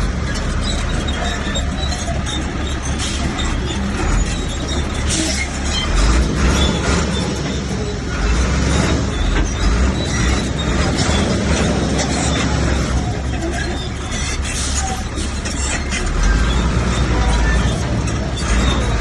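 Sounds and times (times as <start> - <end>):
diesel machine rumbling: 0.0 - 19.0.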